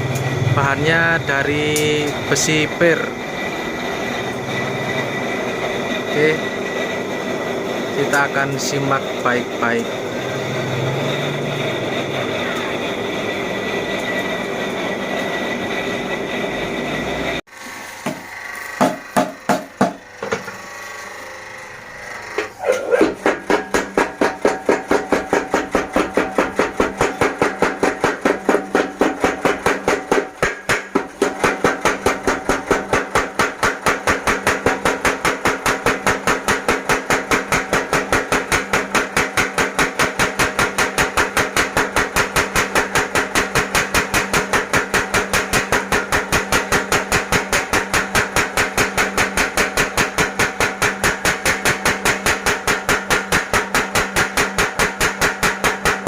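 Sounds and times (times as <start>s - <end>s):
power hammer striking steel: 0.0s - 17.4s, 18.0s - 20.7s, 22.3s - 56.0s.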